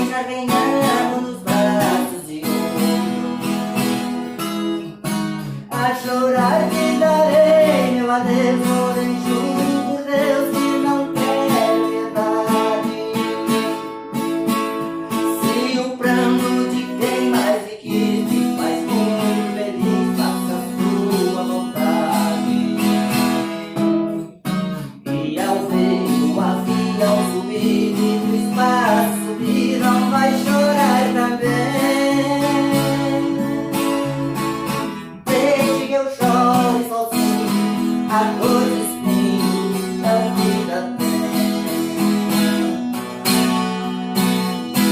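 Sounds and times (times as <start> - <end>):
acoustic guitar strumming and picking: 0.0 - 44.9.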